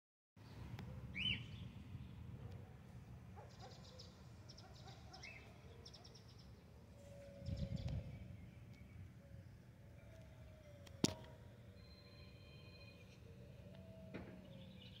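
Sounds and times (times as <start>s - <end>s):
birds chirping: 0.4s - 2.7s, 3.4s - 15.0s.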